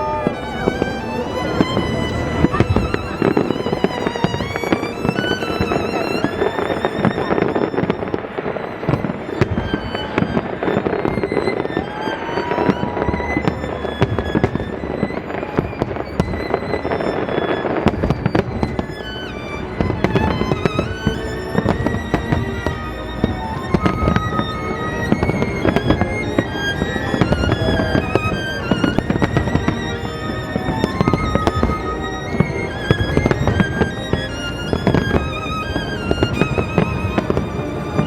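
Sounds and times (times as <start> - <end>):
fireworks bangs and crackles: 0.0 - 19.0, 19.7 - 38.0
classical violin piece: 0.0 - 38.0.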